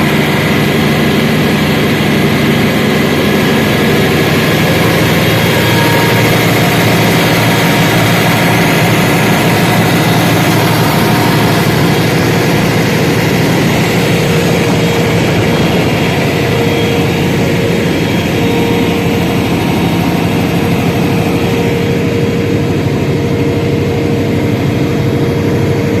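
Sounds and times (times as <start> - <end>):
diesel generator engine drone: 0.0 - 26.0.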